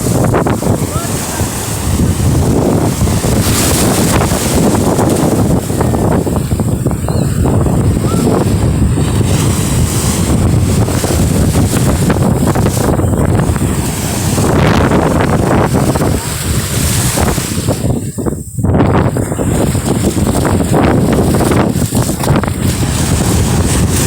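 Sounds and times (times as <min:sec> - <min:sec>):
sea water rushing: 0:00.0 - 0:24.0
wind buffeting microphone: 0:00.0 - 0:24.0.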